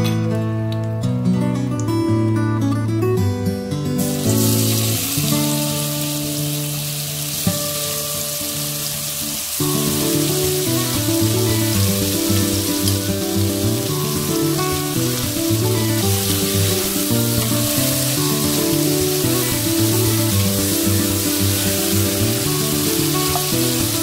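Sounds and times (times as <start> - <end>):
background music with held notes: 0.0 - 24.0
chicken sizzling in a wok: 4.0 - 24.0.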